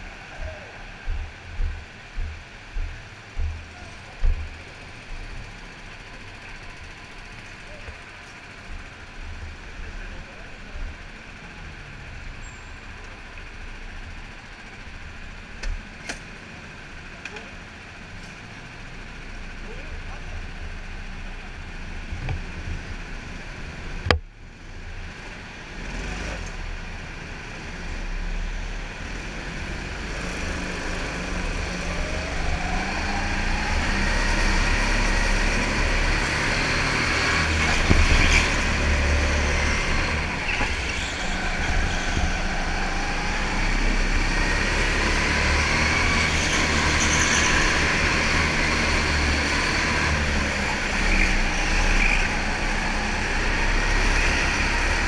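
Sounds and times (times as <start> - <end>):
go-kart engine running: 3.1 - 55.0.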